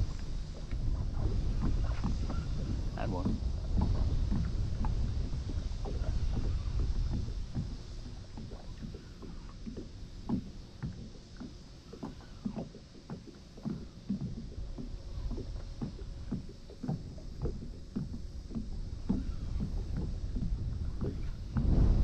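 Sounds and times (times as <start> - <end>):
waves lapping against kayak hull: 0.0 - 22.0
wind rumble on microphone: 0.0 - 22.0.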